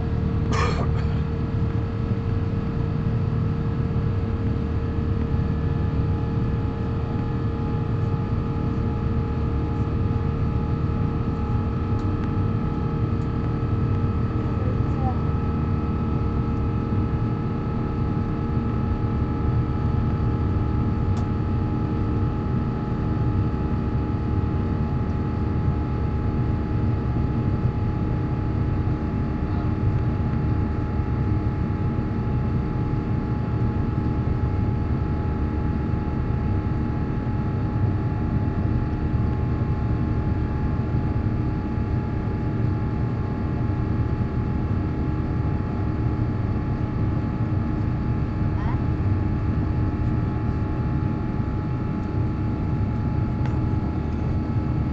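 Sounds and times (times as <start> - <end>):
engine and airflow rumble: 0.0 - 54.9.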